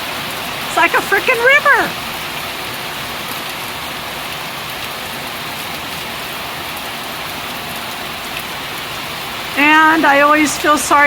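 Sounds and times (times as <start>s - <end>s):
heavy rain pouring: 0.0s - 11.0s
water rushing: 0.0s - 11.0s.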